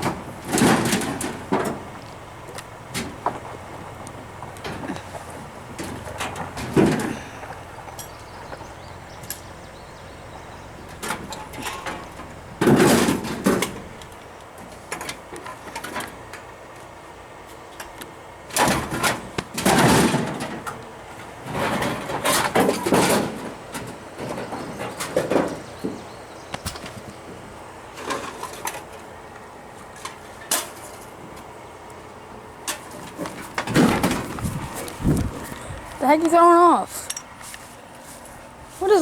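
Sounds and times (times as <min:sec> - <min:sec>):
junk banging and clattering: 0:00.0 - 0:16.8, 0:17.7 - 0:29.2, 0:32.6 - 0:37.6.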